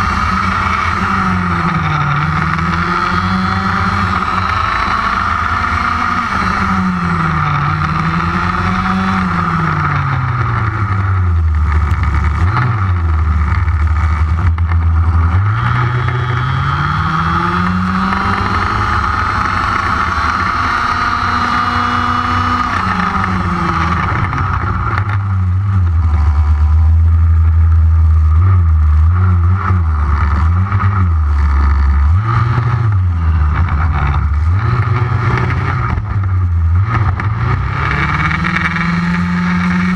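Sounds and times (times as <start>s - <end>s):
small two-stroke engine revving: 0.0s - 25.2s, 29.2s - 39.9s
steady high whine: 0.0s - 39.9s.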